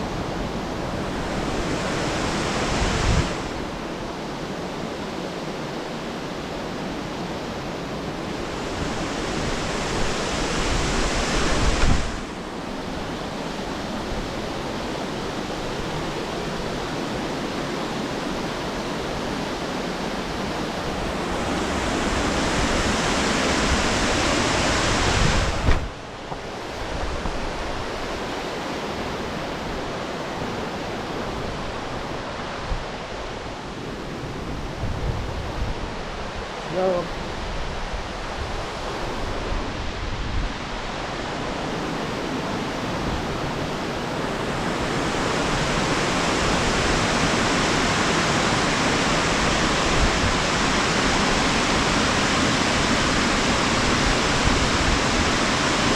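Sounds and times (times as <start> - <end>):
waterfall rushing: 0.0 - 34.7, 35.4 - 55.9.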